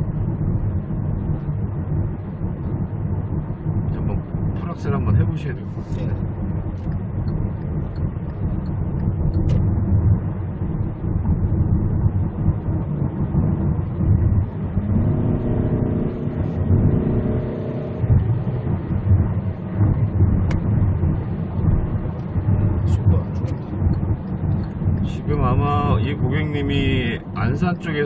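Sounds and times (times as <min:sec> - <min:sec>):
road rumble: 0:00.0 - 0:28.0
car engine accelerating hard: 0:00.1 - 0:28.0.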